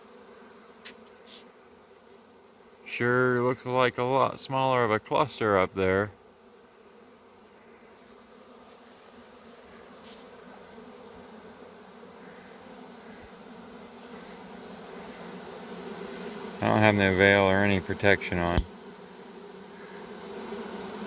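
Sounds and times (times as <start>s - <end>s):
bee swarm buzzing: 0.0s - 21.0s.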